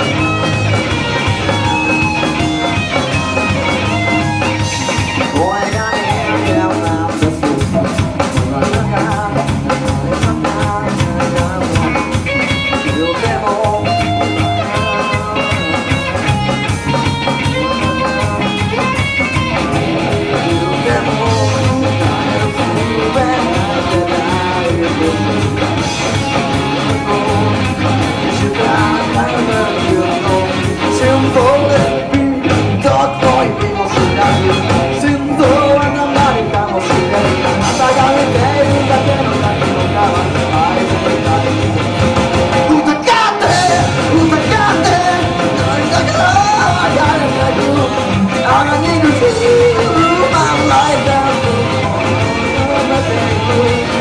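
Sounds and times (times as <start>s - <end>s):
rock band playing loudly: 0.0s - 54.0s.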